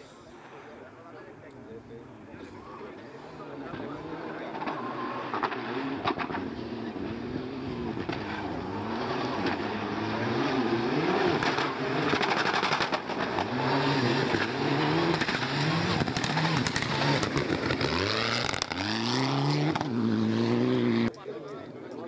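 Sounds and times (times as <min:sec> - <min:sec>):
rally car engine revving: 0:03.4 - 0:21.2.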